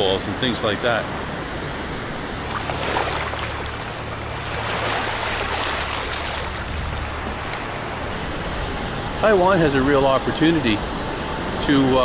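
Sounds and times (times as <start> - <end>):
wind rumble on microphone: 0.0 - 12.0
seawater rushing through gap: 2.0 - 12.0.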